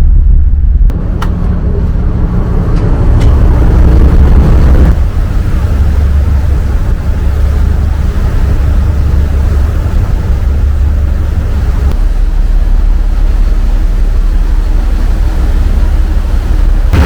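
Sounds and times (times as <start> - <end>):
ferry engines rumbling: 0.0 - 17.0.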